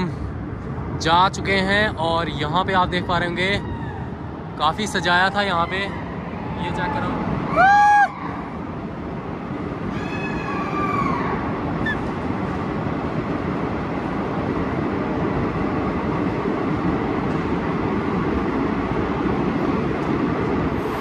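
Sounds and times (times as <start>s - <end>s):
train rumbling in tunnel: 0.0s - 21.0s.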